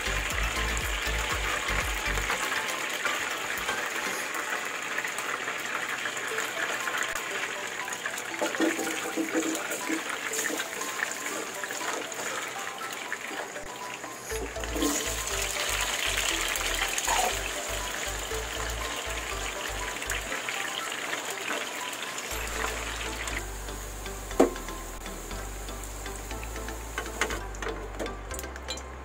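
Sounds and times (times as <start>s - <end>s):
oil sizzling in a frying pan: 0.0s - 27.7s.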